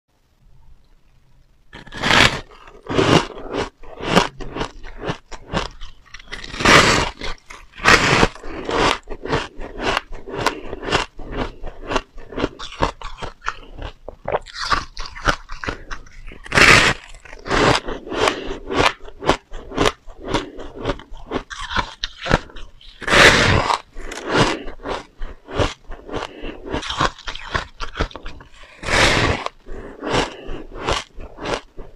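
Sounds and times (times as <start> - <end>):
chewing ice: 1.0 - 31.9
crunching bites of ice: 1.8 - 31.7.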